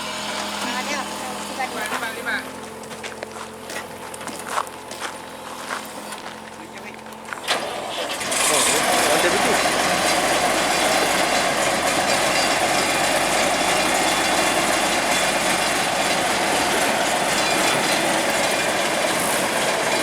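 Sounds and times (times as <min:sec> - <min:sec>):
diesel farm machinery running: 0:00.0 - 0:20.0.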